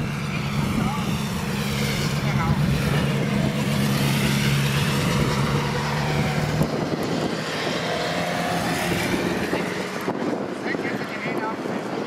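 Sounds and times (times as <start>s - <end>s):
propeller drone: 0.0s - 12.0s
rushing engine noise: 0.0s - 12.0s.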